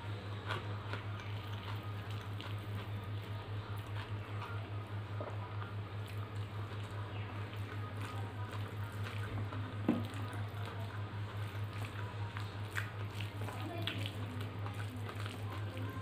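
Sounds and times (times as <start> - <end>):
hand mixing food squelching: 0.0 - 16.0
steady low hum: 0.0 - 16.0
chewing: 0.3 - 16.0.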